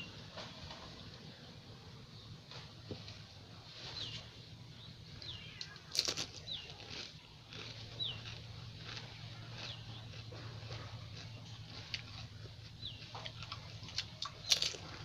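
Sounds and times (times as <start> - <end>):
small birds chirping: 0.0 - 15.0
crackling crunch: 2.4 - 15.0.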